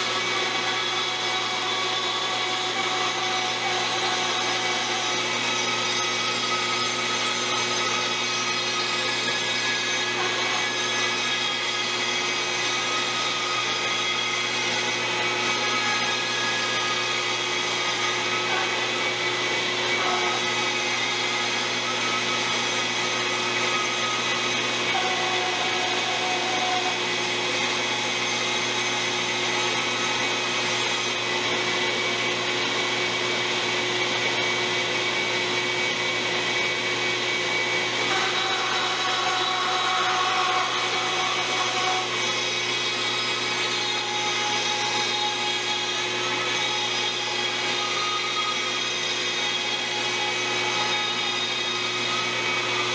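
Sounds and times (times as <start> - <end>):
bandsaw cutting wood: 0.0 - 52.9
dust collector running: 0.0 - 52.9.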